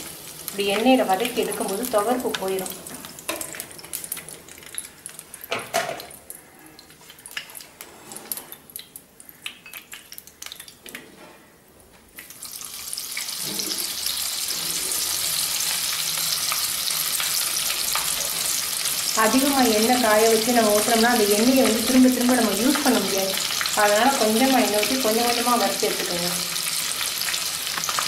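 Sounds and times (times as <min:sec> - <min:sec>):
deep-frying sizzle: 0:00.0 - 0:10.9, 0:12.2 - 0:28.0
hot oil crackling and popping: 0:00.0 - 0:11.0, 0:12.2 - 0:28.0.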